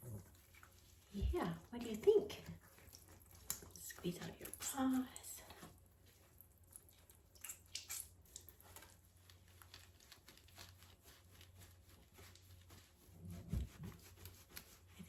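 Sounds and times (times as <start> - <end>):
wet rubbing of fur being washed: 0.0 - 15.0.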